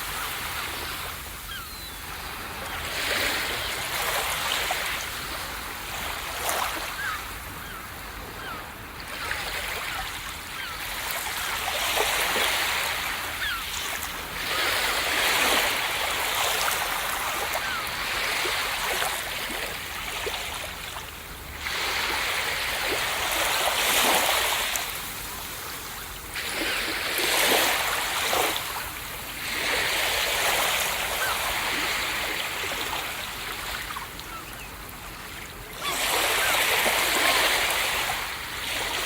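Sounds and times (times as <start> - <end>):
ocean waves breaking: 0.0 - 10.0, 10.6 - 34.4, 35.0 - 39.0.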